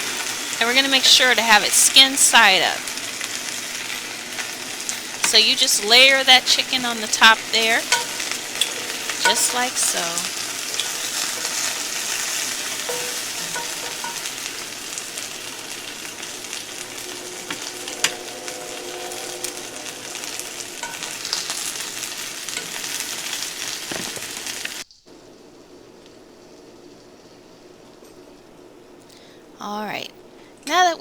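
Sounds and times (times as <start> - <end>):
chicken sizzling in a skillet: 0.0 - 29.5.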